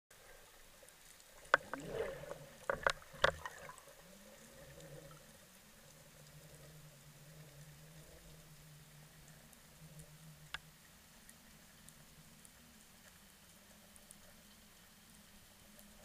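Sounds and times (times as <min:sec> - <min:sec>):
low underwater drone: 0:00.2 - 0:16.0.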